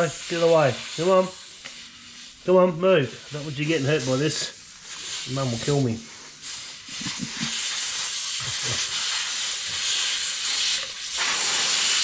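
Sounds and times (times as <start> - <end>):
air hissing out of tyre: 0.0 - 12.0.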